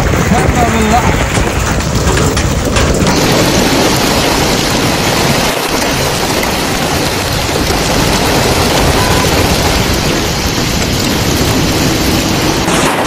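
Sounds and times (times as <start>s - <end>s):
hail and rain pelting down: 0.0s - 13.0s.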